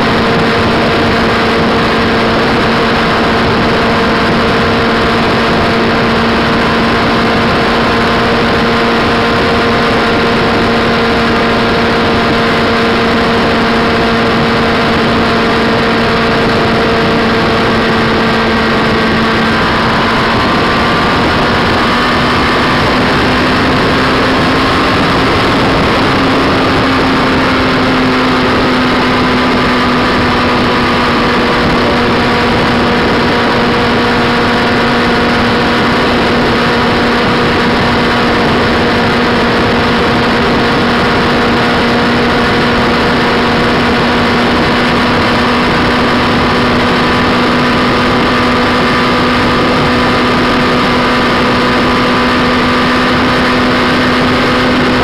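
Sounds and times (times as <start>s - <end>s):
motorcycle engine droning: 0.0s - 55.0s
road noise: 0.0s - 55.0s
rushing wind: 0.0s - 55.0s.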